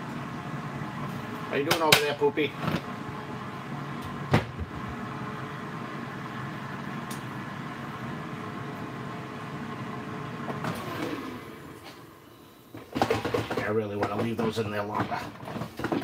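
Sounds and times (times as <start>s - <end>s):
air fryer fan hum: 0.0s - 16.0s.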